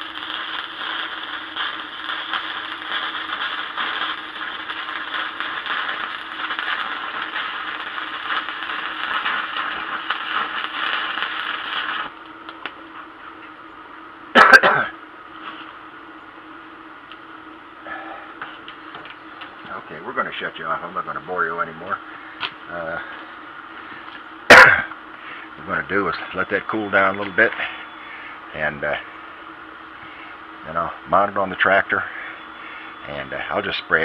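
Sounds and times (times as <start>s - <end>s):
arc welding crackling sizzle: 0.0s - 34.0s
steady low hum: 0.0s - 34.0s.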